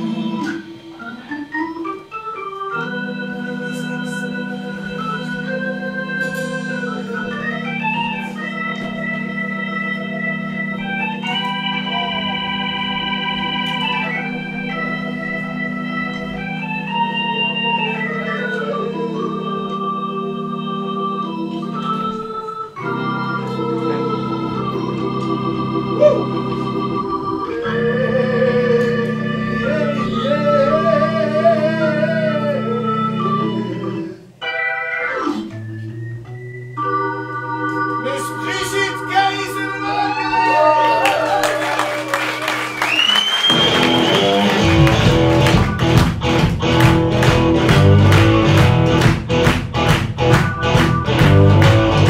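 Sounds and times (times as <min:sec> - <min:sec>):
organ chords with melody: 0:00.0 - 0:52.0.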